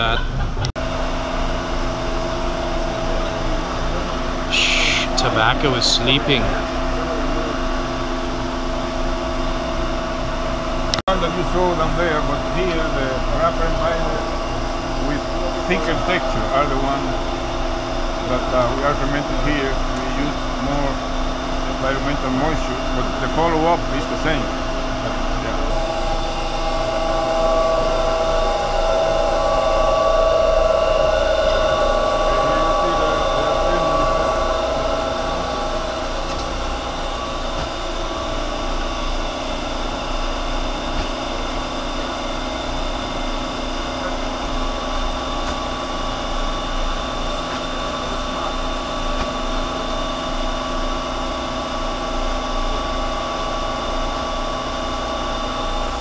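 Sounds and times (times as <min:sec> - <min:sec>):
fan machinery humming: 0:00.0 - 0:56.0.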